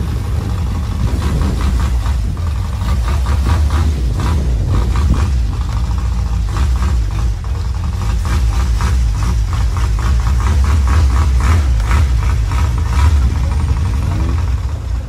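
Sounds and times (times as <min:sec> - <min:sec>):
boat engine pulsing: 0:00.0 - 0:15.0.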